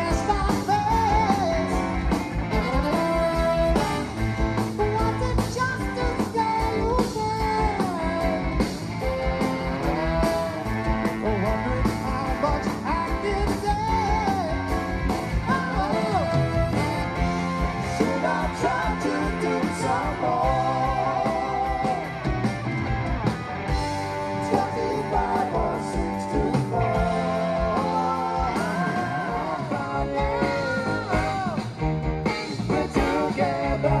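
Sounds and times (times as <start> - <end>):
lead singer singing: 0.0 - 22.3, 24.2 - 34.0
electric guitar: 0.0 - 34.0
rock band playing: 0.0 - 34.0
steady drum beat: 0.0 - 34.0.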